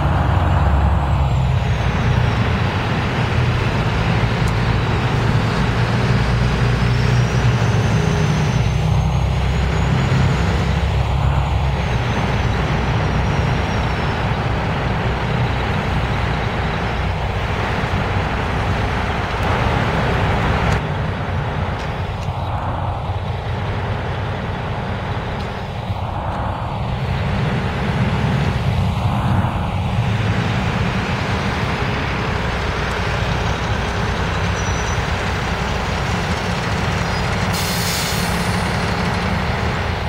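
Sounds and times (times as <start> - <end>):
diesel bus engine rumbling: 0.0 - 40.0.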